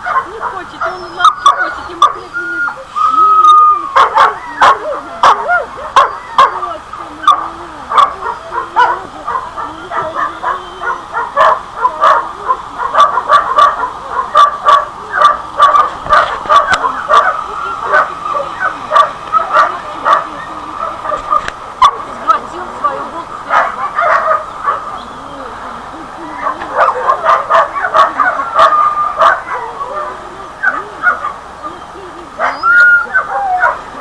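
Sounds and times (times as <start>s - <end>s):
dogs barking and yipping: 0.0s - 34.0s.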